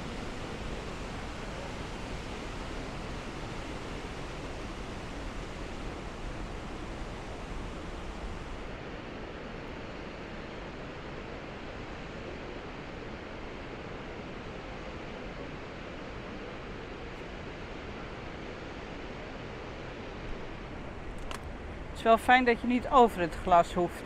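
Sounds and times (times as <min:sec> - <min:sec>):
river rushing through gorge: 0:00.0 - 0:24.0.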